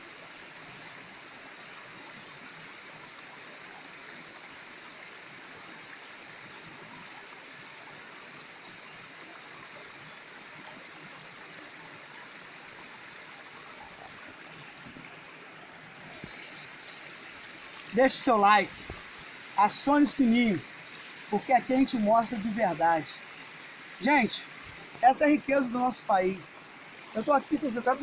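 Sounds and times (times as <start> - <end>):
stream flowing over rocks: 0.0 - 28.0.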